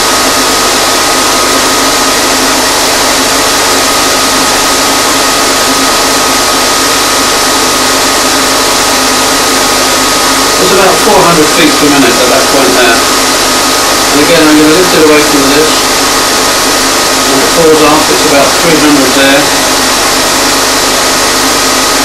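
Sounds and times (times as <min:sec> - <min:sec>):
propeller air rush with high whine: 0:00.0 - 0:22.0.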